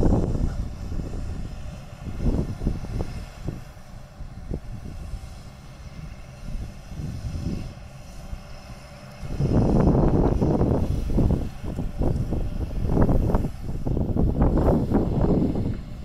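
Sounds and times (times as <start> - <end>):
distant excavator engine drone: 0.0 - 16.0.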